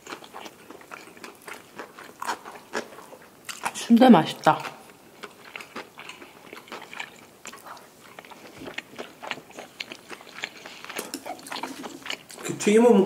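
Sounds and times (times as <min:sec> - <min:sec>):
mouth chewing food: 0:00.0 - 0:12.6.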